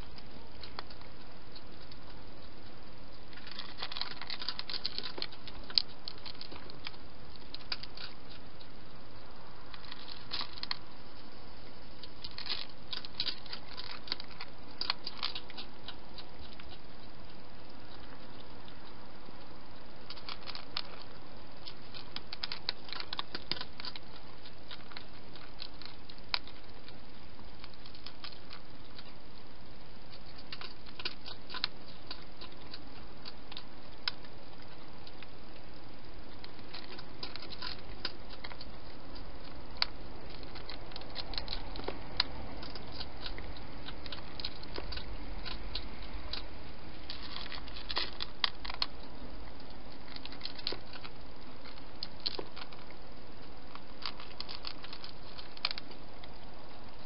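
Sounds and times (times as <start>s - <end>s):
hedgehog eating with wet clicks: 0.0s - 57.0s.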